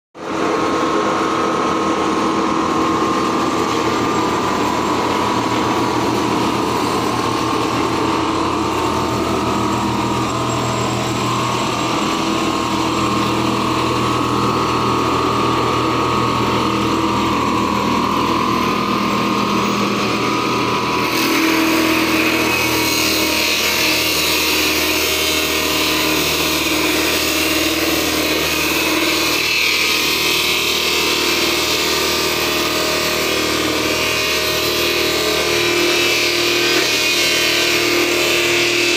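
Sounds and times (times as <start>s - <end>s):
machine grinding logs into sawdust: 0.2s - 38.9s
steady motor whine: 0.2s - 38.9s.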